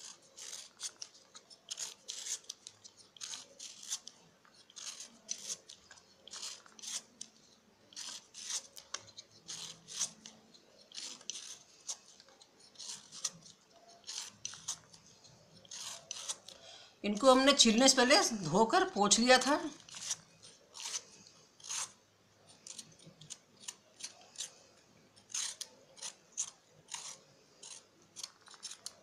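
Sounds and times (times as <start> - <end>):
peeler scraping mango skin: 0.0 - 29.0.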